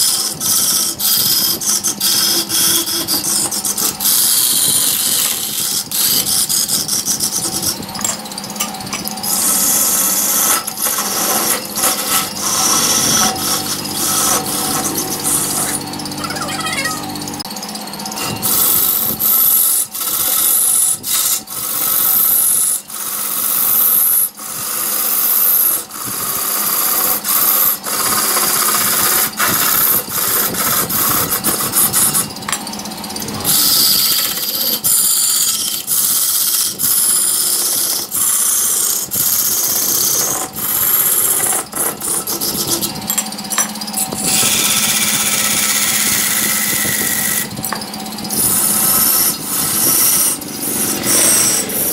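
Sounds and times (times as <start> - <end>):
lathe humming: 0.0 - 51.9
tool scraping spinning wood: 0.0 - 51.9.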